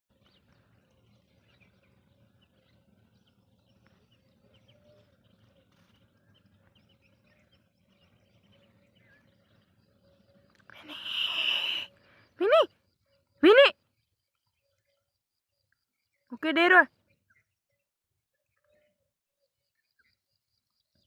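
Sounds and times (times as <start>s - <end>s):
faint bird chirps: 0.1s - 21.0s.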